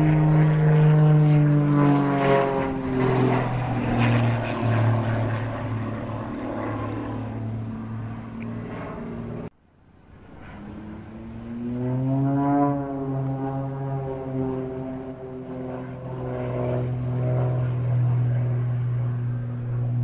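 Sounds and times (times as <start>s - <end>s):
propeller plane flying overhead: 0.0s - 20.0s.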